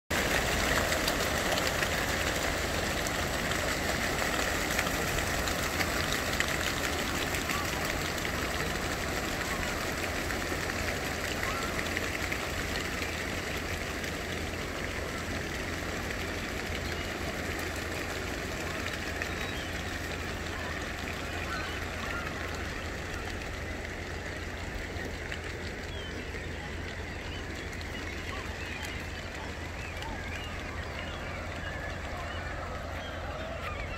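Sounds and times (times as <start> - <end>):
many wingbeats of birds taking off: 0.1 - 33.9.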